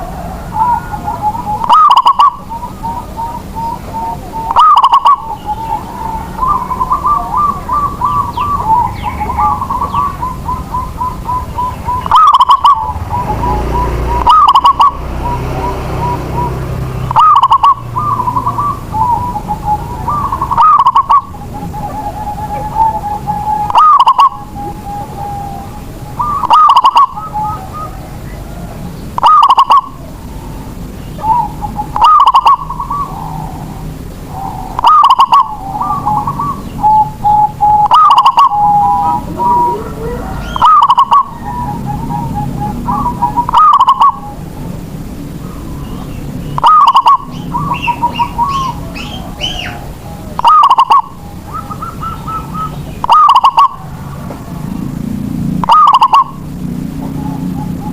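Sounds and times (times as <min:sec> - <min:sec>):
dove cooing: 0:00.0 - 0:57.9
higher bird chirps: 0:00.0 - 0:57.9.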